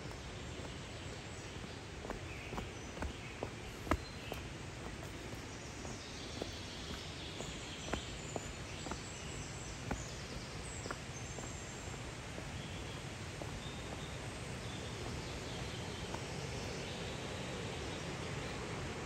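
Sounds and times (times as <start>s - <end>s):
small birds chirping: 0.0s - 19.0s
steady outdoor rush: 0.0s - 19.0s.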